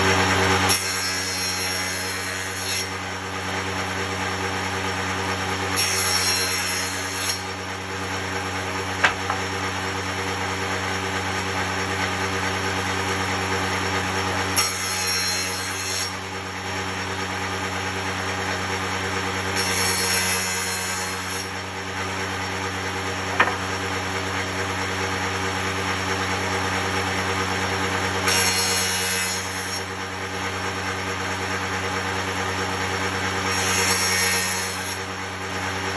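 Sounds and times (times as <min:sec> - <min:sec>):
woodworking machine cutting wood: 0:00.0 - 0:35.9.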